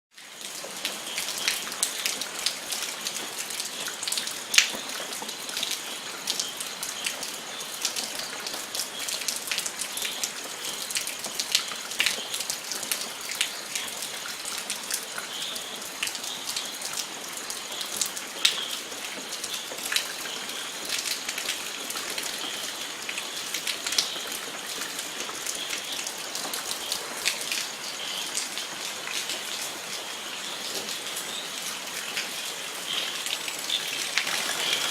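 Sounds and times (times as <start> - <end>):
raindrops pattering on a surface: 0.1 - 34.9
steady rain falling: 0.1 - 34.9.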